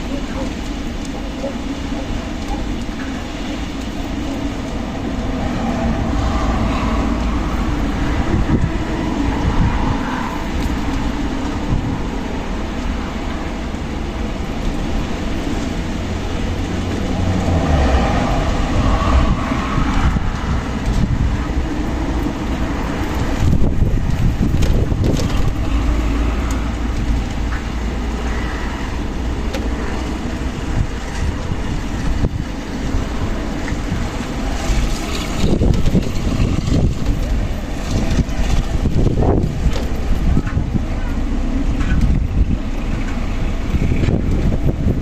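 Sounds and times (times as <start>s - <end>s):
strong gusting wind: 0.0s - 45.0s
wind buffeting microphone: 0.0s - 45.0s.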